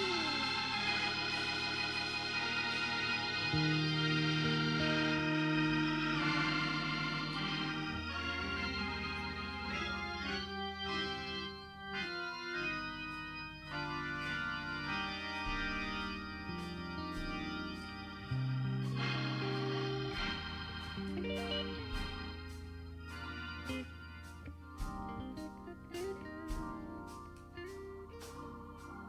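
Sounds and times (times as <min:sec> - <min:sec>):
organ playing held chords: 0:00.0 - 0:29.0.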